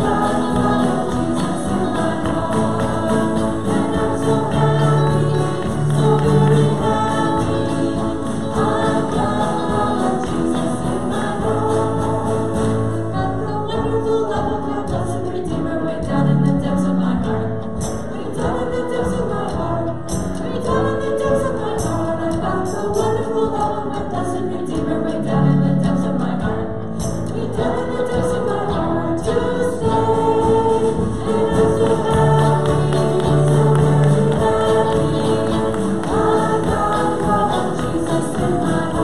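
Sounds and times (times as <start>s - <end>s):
congregation singing a hymn: 0.0s - 39.0s
instrumental accompaniment: 0.0s - 39.0s.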